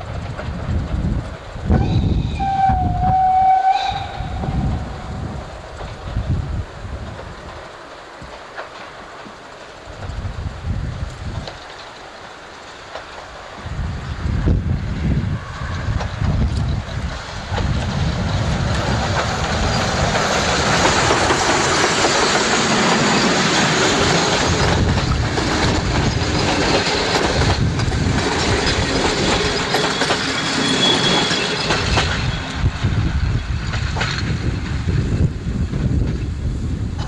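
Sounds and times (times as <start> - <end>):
wheels clicking over rail joints: 0.0 - 2.6, 4.0 - 37.0
steam train passing: 0.0 - 37.0.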